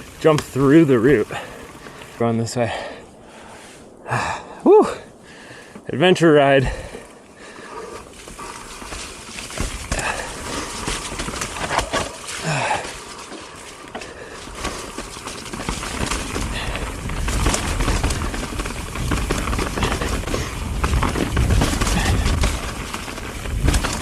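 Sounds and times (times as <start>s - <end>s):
bike rattling and knocking: 0.0s - 2.8s, 6.6s - 24.0s
bike tyres rolling over dirt: 0.0s - 24.0s.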